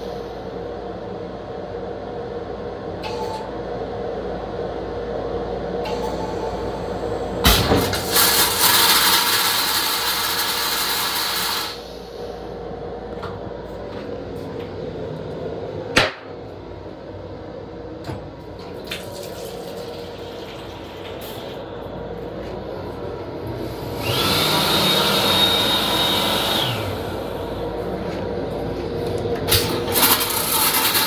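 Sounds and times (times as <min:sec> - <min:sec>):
toilet flushing with high whine: 0:00.0 - 0:01.4, 0:02.2 - 0:13.7, 0:16.7 - 0:31.0
rail car hum: 0:00.0 - 0:31.0.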